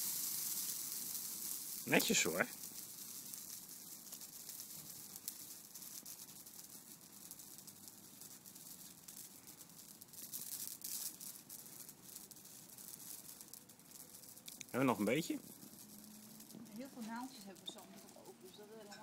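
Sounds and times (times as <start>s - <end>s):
fire hissing and crackling: 0.0s - 19.0s.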